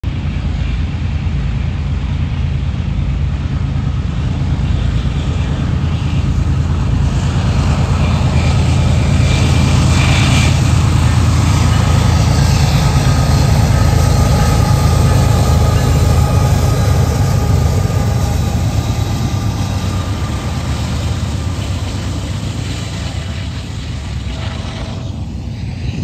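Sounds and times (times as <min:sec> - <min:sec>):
diesel locomotive engine drone: 0:00.0 - 0:26.0.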